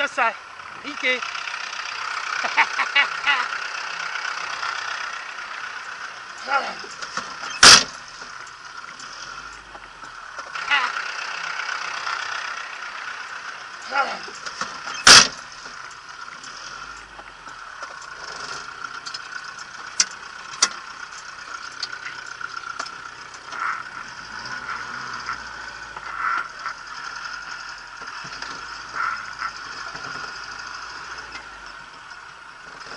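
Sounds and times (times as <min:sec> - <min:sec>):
city street traffic: 0:00.0 - 0:32.9
truck engine pulling away: 0:00.0 - 0:32.9.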